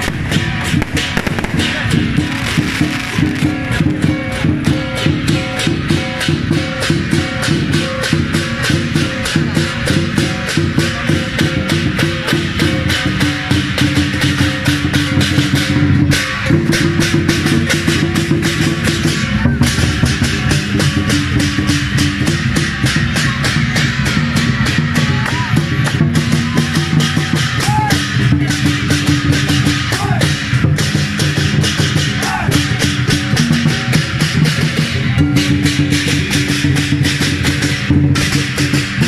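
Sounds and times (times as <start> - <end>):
big drum beating: 0.0 - 39.0
crashing cymbals: 0.0 - 39.0.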